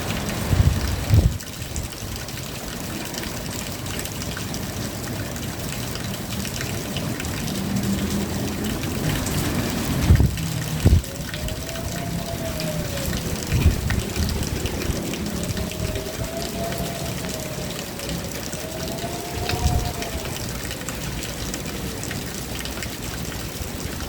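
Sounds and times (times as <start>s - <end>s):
drizzle with trickling water: 0.0s - 24.0s.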